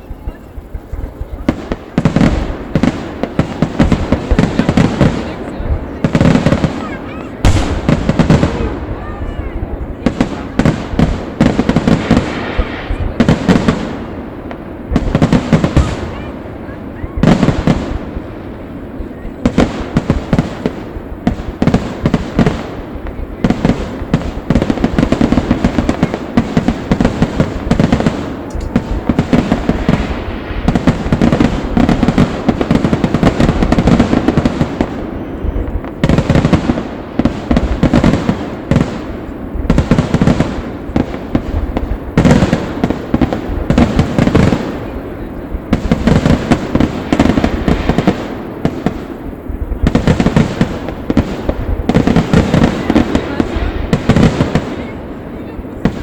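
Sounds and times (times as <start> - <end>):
fireworks barrage of bangs: 0.0 - 56.0.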